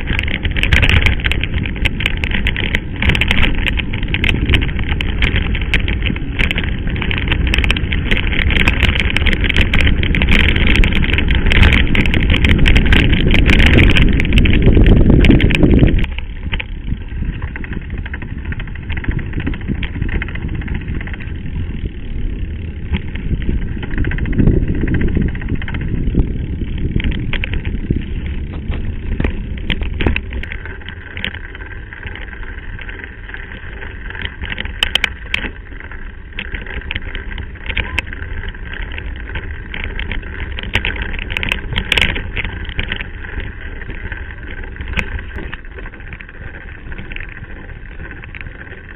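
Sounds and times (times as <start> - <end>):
bike rattling: 0.0 - 48.9
bike tyres crunching on gravel: 0.0 - 48.9
wind rumbling on microphone: 0.0 - 48.9.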